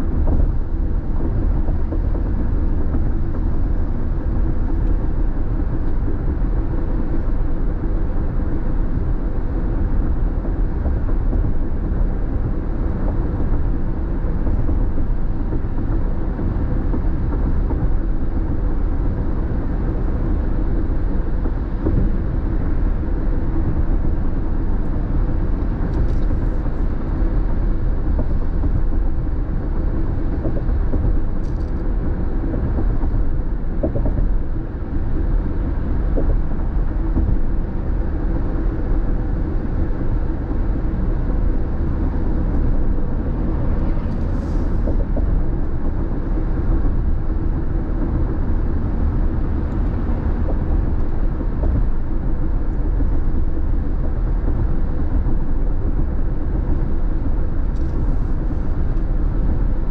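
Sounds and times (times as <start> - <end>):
car driving at freeway speed: 0.0 - 59.9.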